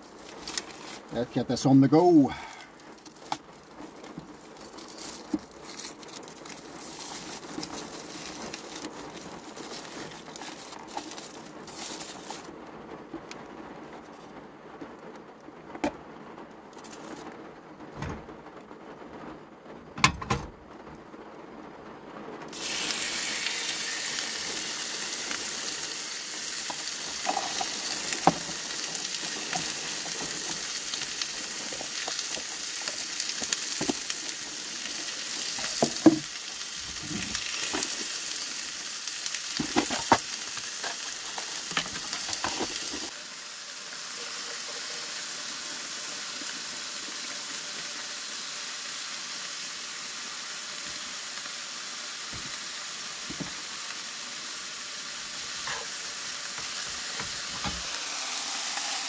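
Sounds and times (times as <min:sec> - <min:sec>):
chicken sizzling in frying pan: 0:00.0 - 0:12.5, 0:22.5 - 0:59.0.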